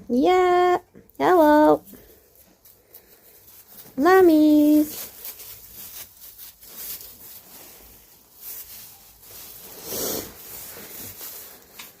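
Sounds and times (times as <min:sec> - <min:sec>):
lambs rustling and shuffling: 0:00.3 - 0:12.0.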